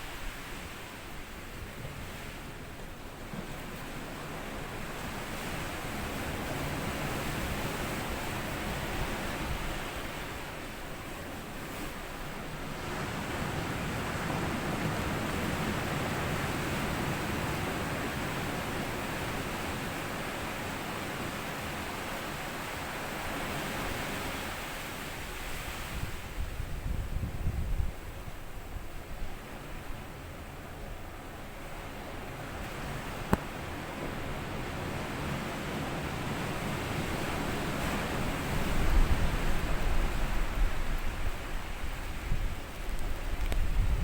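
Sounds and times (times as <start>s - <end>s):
sea waves on sand beach: 0.0s - 26.9s, 28.0s - 44.0s.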